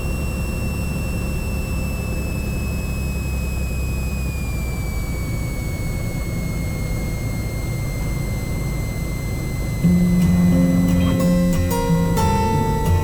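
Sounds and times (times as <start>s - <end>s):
propeller engine drone: 0.0s - 13.0s.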